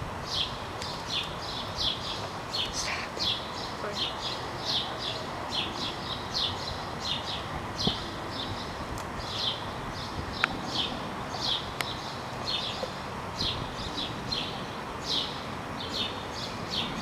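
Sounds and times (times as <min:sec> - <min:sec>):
background hiss: 0:00.0 - 0:17.0
small birds chirping: 0:00.2 - 0:17.0.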